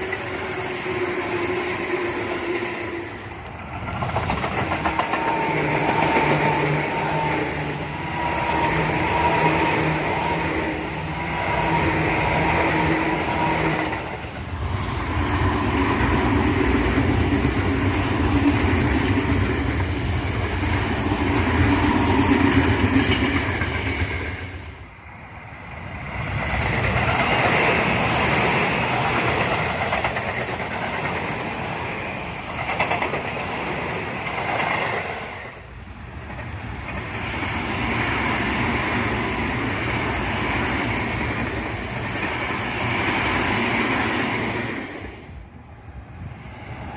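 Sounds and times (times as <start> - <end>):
wheels clacking on rails: 0.0 - 45.3
electric trains passing: 0.0 - 46.9.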